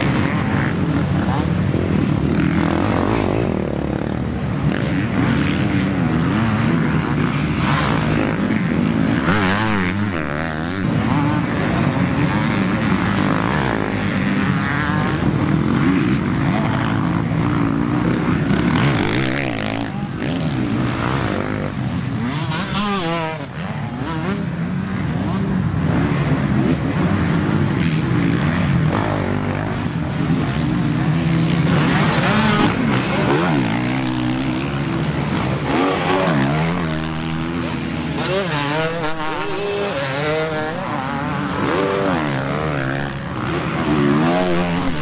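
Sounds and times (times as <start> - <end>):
motocross engines revving: 0.0 - 45.0.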